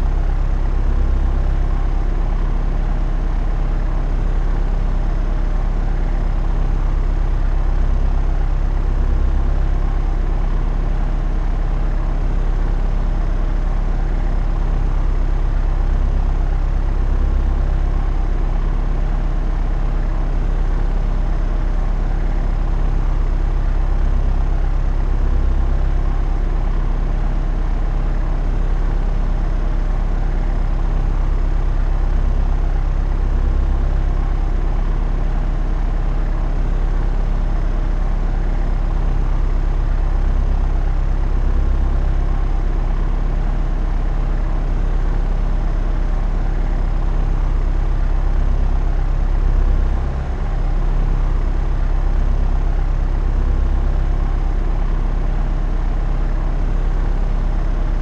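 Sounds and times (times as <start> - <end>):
propeller aircraft engine drone: 0.0 - 58.0.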